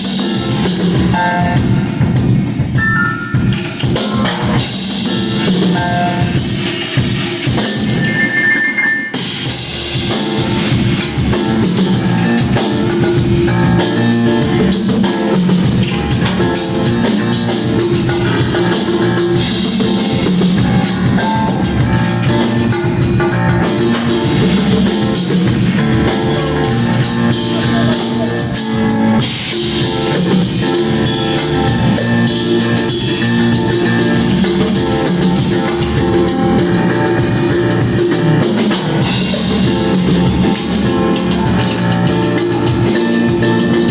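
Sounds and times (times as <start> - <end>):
bass guitar: 0.0 - 8.2, 9.2 - 43.9
drum kit beat: 0.0 - 43.9.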